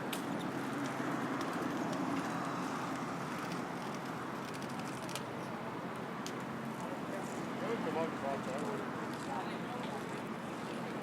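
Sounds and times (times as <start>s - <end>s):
passers-by: 0.0s - 11.0s
traffic hum: 0.0s - 11.0s.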